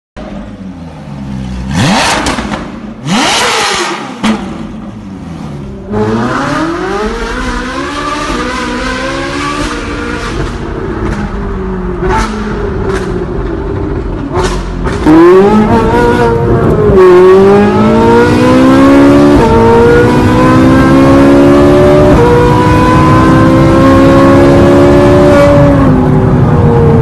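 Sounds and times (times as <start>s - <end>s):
car engine revving: 0.2s - 27.0s.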